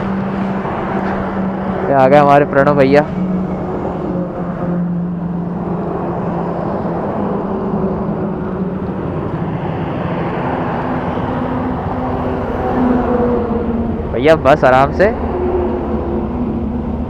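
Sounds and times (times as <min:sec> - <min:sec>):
highway traffic: 0:00.0 - 0:17.0
motorcycle riding: 0:00.0 - 0:17.0.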